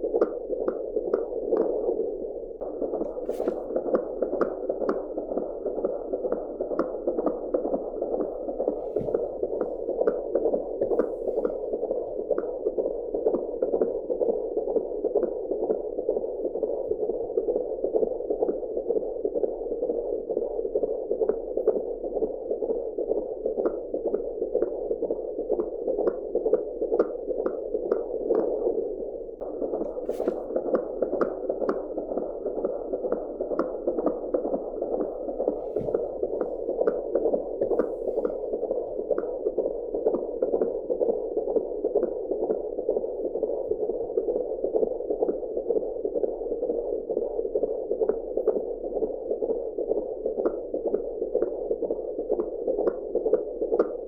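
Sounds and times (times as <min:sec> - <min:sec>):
fetal heartbeat on doppler: 0:00.0 - 0:54.0.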